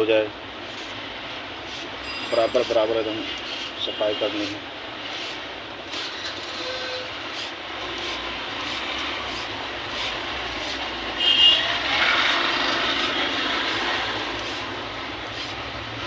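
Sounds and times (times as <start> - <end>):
steady background noise: 0.0 - 16.0
tool scraping metal: 0.7 - 1.0, 1.6 - 15.6.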